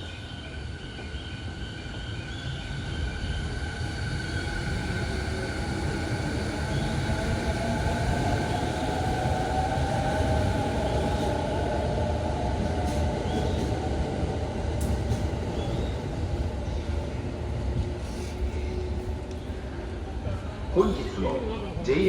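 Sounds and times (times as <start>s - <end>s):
train wheels rumbling on rails: 0.2s - 20.7s.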